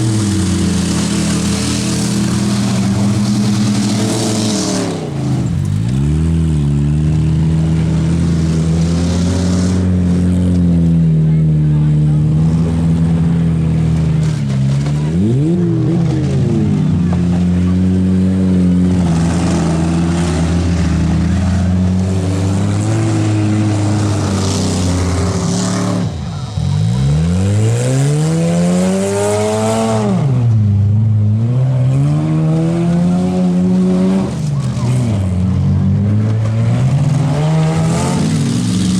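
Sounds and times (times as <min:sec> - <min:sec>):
car engine revving high: 0:00.0 - 0:38.9
car engines running hard: 0:00.0 - 0:38.9.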